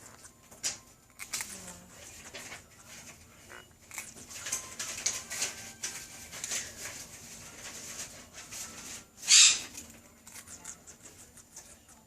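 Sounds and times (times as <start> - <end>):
parrot crunching a cracker: 0.0 - 12.0.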